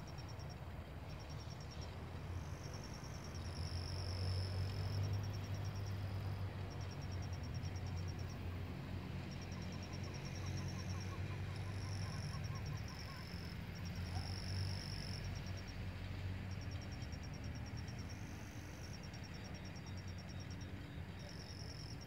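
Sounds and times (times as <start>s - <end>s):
insect trill: 0.0s - 22.0s
insects chirping: 0.0s - 22.0s.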